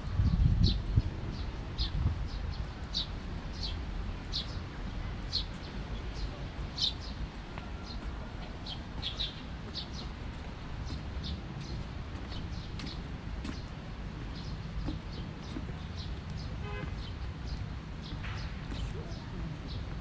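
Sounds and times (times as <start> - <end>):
low rumble on microphone: 0.0 - 16.8
songbird chirping: 0.6 - 20.0.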